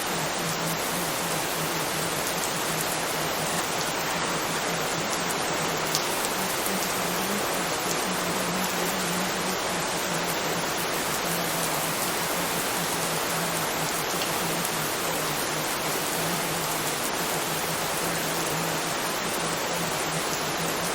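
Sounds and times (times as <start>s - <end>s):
intermittent low hum: 0.0s - 20.9s
rain hiss: 0.0s - 20.9s.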